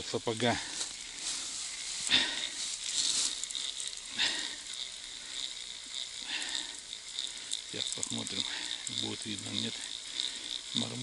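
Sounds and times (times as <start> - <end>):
fishing reel rustling and scraping: 0.0 - 11.0
steady hiss: 0.0 - 11.0.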